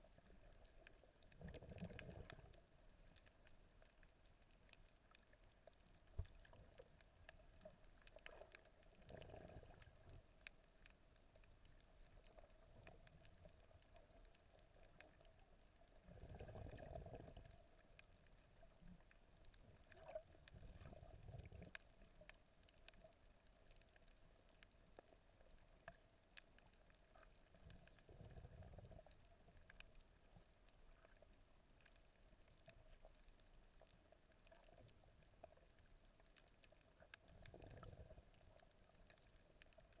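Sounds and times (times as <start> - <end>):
faint steady hum: 0.0 - 40.0
underwater water surges: 0.0 - 40.0.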